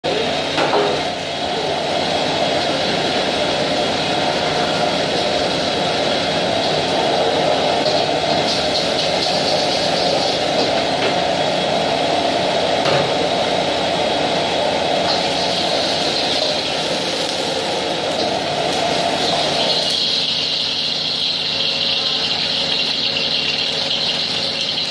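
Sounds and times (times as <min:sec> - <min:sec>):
gas wok burner roaring: 0:00.0 - 0:24.9
kitchen extractor hood: 0:00.0 - 0:24.9.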